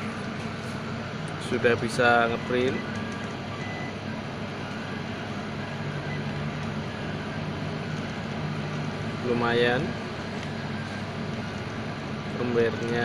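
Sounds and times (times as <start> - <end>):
steady whir: 0.0 - 13.0
stepper motors humming: 0.0 - 13.0.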